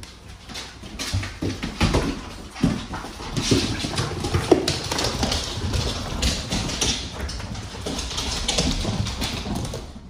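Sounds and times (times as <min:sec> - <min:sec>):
dog claws clicking on wooden floor: 0:00.0 - 0:10.0.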